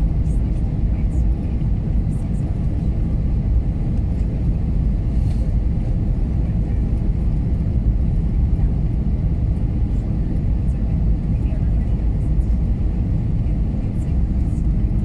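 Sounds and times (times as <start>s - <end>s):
airliner cabin low rumble: 0.0s - 15.0s.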